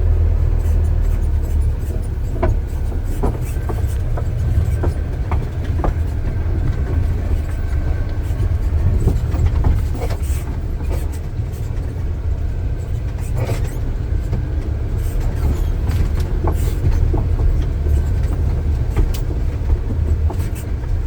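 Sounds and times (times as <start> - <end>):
heavy machinery diesel rumble: 0.0 - 21.0.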